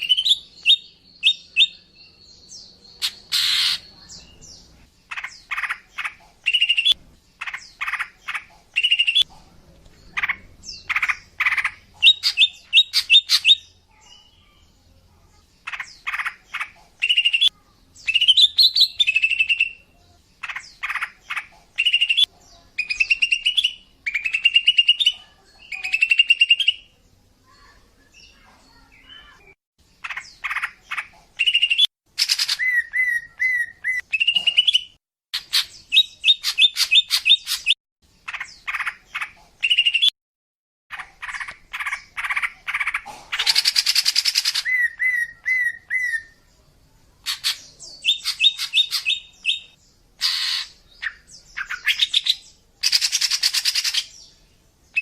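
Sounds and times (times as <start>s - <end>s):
bird chirping and trilling: 0.0s - 9.3s, 10.0s - 14.9s, 15.5s - 40.2s, 40.9s - 46.6s, 47.2s - 55.0s.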